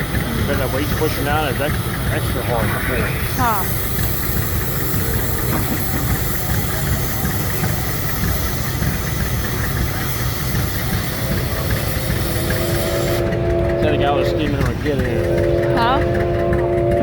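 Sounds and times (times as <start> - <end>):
tractor engine pulsing rumble: 0.0 - 17.0.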